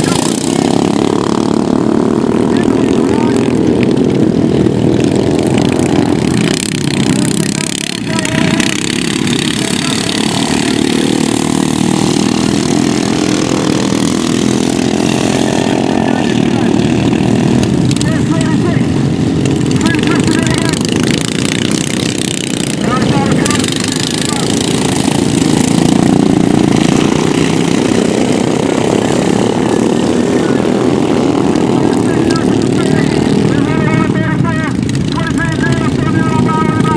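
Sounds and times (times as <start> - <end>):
lawnmower engines droning: 0.0 - 36.9.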